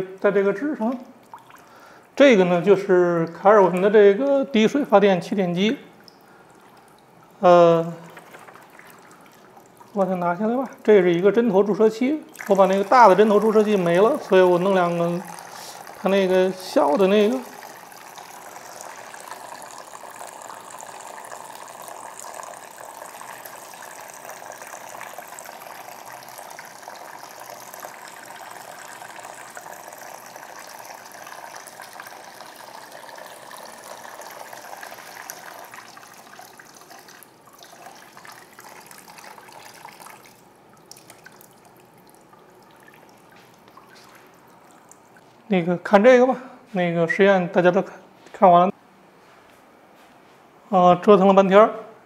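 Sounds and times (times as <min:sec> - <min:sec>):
water trickling and dripping: 0:00.0 - 0:45.5.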